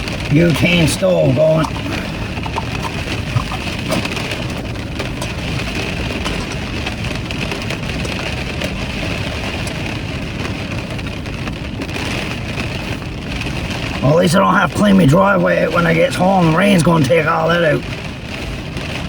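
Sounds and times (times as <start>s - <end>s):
faint raindrop ticks: 0.0s - 19.0s
rain falling on a car: 0.0s - 19.0s.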